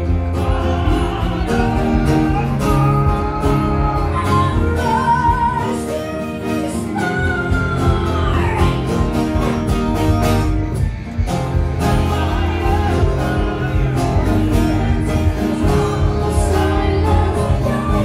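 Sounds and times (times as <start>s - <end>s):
person singing: 0.0s - 9.6s, 11.5s - 18.0s
keyboard: 0.0s - 18.0s
strummed acoustic guitars: 0.0s - 18.0s.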